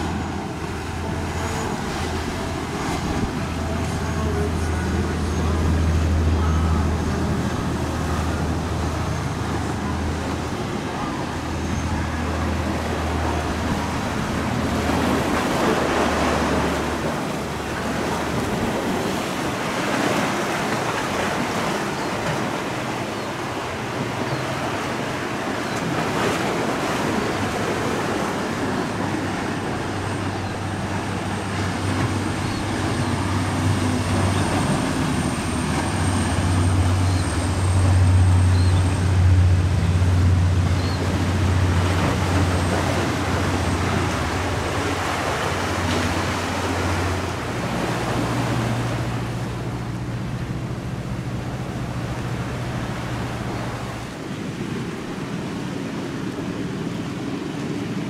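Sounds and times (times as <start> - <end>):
boat diesel engines droning: 0.0 - 58.0
spray and waves rushing: 0.0 - 58.0
wind: 0.0 - 58.0.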